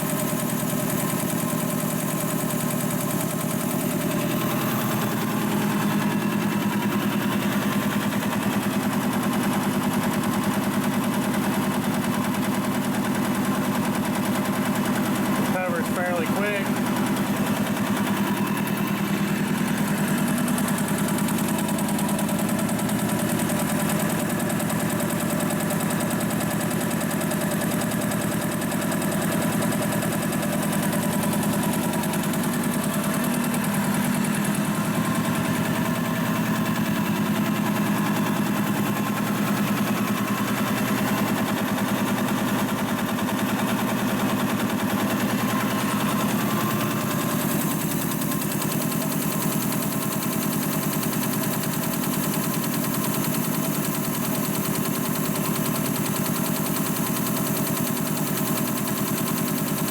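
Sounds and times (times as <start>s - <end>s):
air compressor pulsing: 0.0s - 59.9s.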